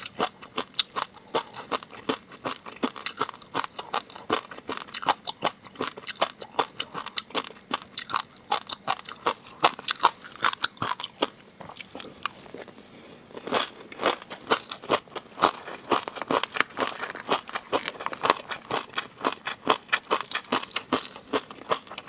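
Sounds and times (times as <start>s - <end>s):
chewing and crunching seafood: 0.0s - 22.0s.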